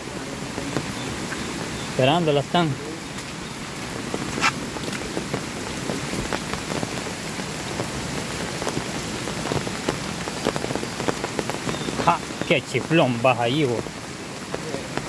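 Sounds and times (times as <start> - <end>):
close raindrop hits: 0.0 - 15.0
heavy rain falling: 0.0 - 15.0.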